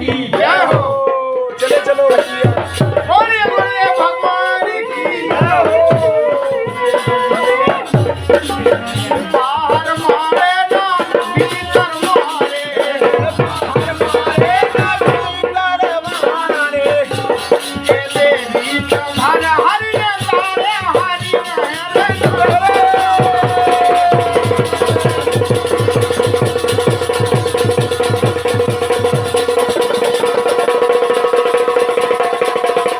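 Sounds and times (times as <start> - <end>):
fast rattling percussion: 1.6 - 32.9.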